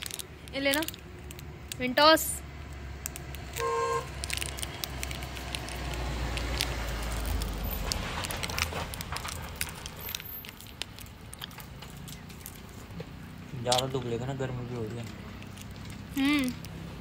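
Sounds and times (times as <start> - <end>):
small clicks and crackles: 0.0 - 17.0
vehicle passing on road: 0.0 - 17.0.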